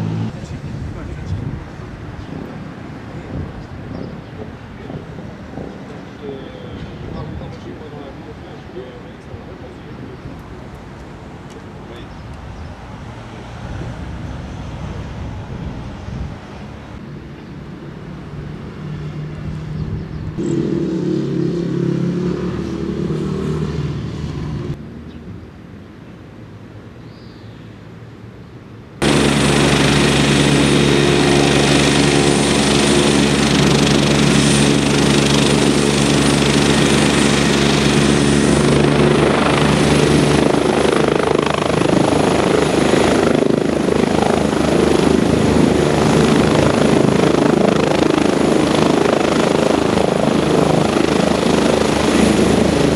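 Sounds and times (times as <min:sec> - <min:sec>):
helicopter rotor and engine: 0:00.0 - 0:21.4, 0:29.0 - 0:52.9.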